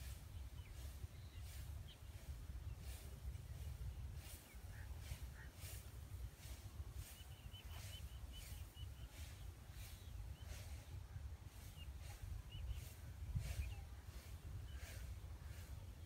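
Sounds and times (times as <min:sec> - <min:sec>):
birds chirping: 0:00.0 - 0:16.0
wind rumbling on microphone: 0:00.0 - 0:16.0.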